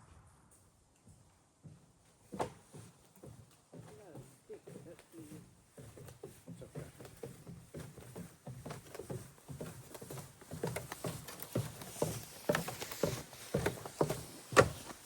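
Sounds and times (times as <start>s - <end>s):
crunching footsteps on steps: 1.6s - 15.0s.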